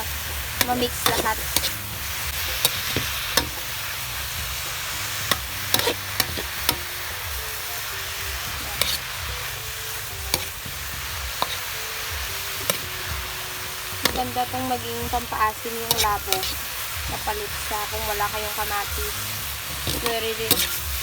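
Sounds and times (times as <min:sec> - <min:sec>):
spatula scraping a pan: 0:00.0 - 0:07.0, 0:08.4 - 0:09.3, 0:10.2 - 0:21.0
mushrooms sizzling in a pan: 0:00.0 - 0:21.0.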